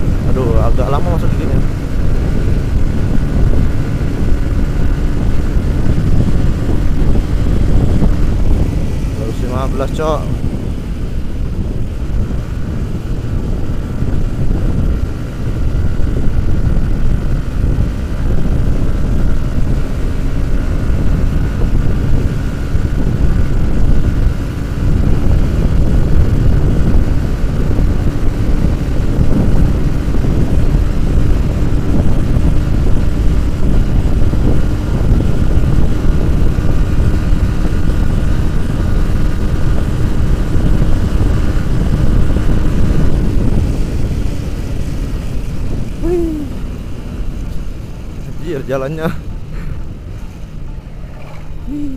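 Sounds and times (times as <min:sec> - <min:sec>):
motorcycle engine at high revs: 0:00.0 - 0:51.9
wind rumble on microphone: 0:00.0 - 0:51.9.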